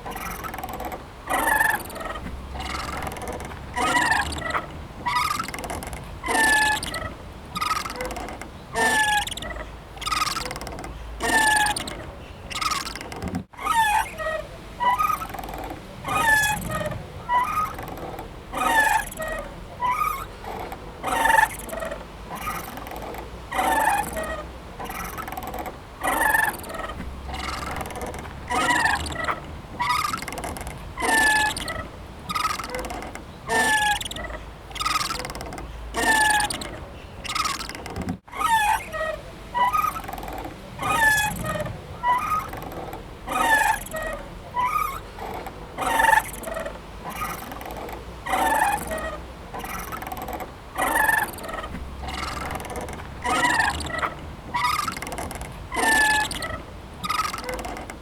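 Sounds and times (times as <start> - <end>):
playground swing squeaking: 0.0 - 58.0.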